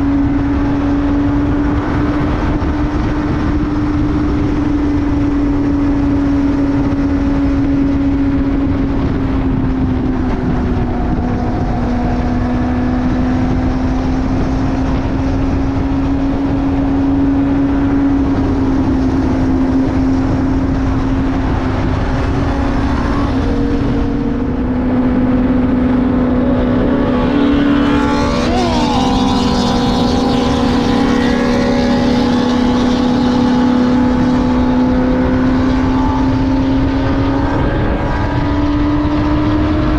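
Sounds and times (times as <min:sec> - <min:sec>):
motorcycle engine droning: 0:00.0 - 0:39.9
wind rush: 0:00.0 - 0:39.9.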